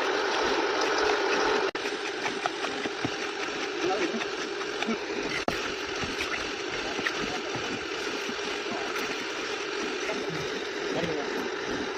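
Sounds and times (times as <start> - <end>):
engine running steadily: 0.0 - 11.9.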